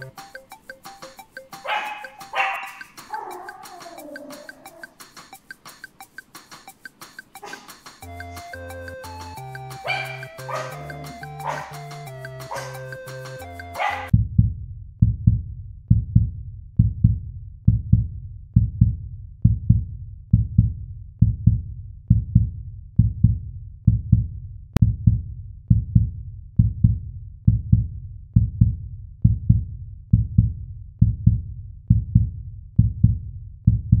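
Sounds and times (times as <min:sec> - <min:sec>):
low double thump music: 0:00.0 - 0:34.0.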